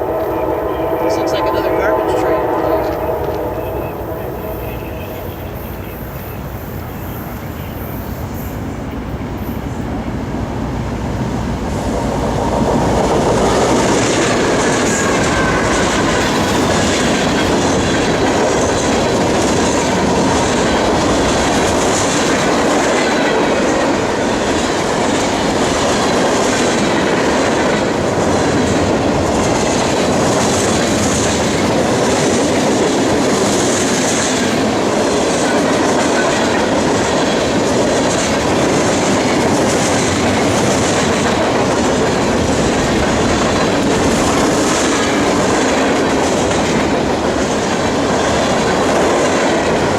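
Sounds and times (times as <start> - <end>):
train passing: 0.0 - 49.9.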